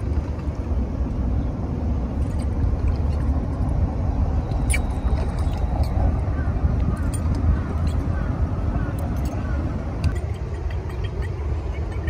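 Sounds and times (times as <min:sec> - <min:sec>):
steady low rumble: 0:00.0 - 0:12.0
lure churning water: 0:02.2 - 0:12.0.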